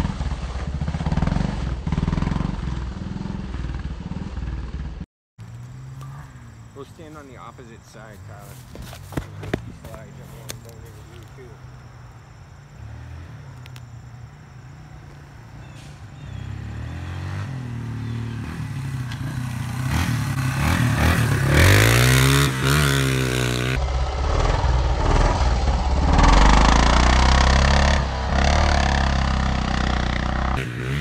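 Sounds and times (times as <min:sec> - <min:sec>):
off-road vehicle engine revving: 0:00.0 - 0:11.9, 0:12.6 - 0:31.0.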